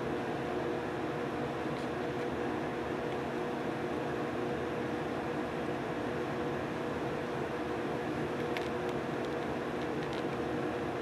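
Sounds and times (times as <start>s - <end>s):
fan motor humming: 0.0s - 11.0s.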